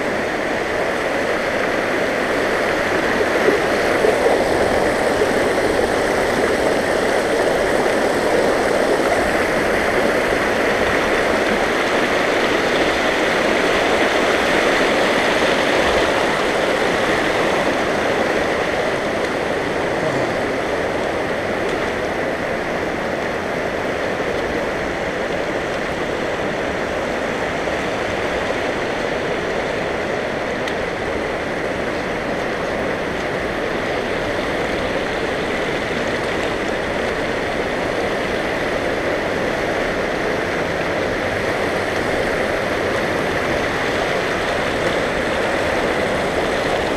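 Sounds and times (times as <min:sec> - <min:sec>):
creek rushing over stones: 0:00.0 - 0:46.9.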